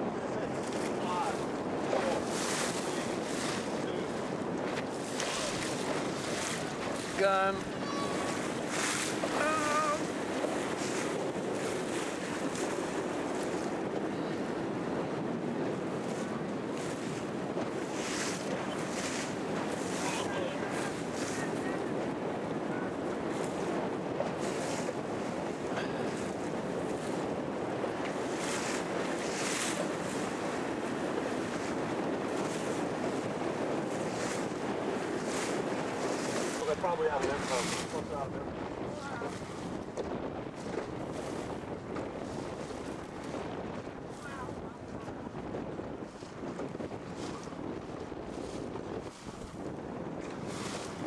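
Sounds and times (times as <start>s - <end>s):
choppy water against hull: 0.0s - 51.0s
wind buffeting microphone: 0.0s - 51.0s.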